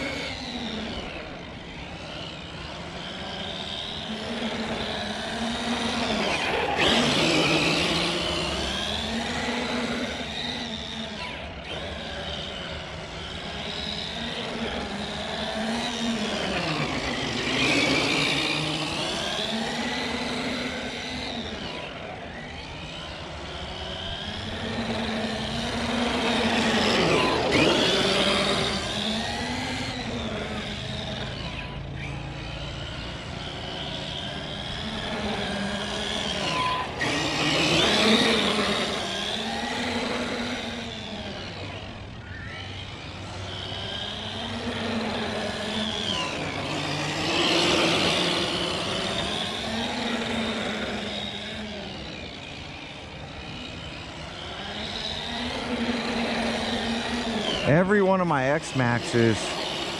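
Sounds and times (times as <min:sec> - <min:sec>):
electric motor and gears whining: 0:00.0 - 0:59.9.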